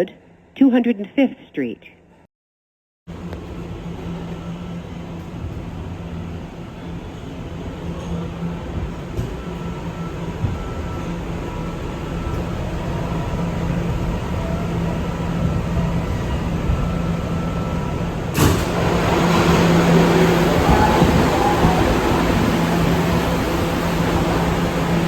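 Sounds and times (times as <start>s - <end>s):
subway train hum: 3.1s - 25.0s
train rail noise: 3.1s - 25.0s.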